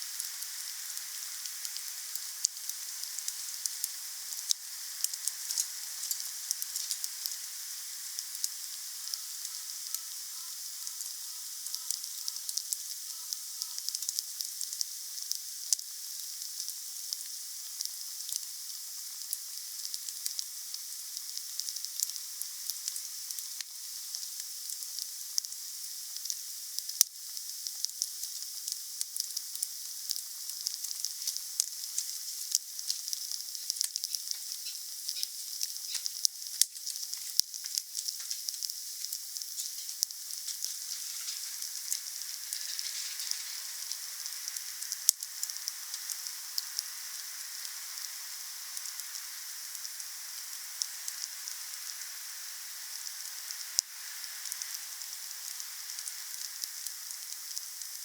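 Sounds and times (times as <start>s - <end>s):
wood fire hissing and crackling: 0.0s - 58.0s.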